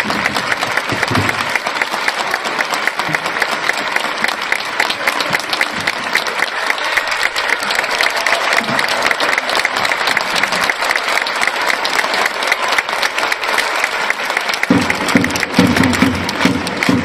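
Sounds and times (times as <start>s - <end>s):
stadium crowd applauding: 0.0s - 17.0s.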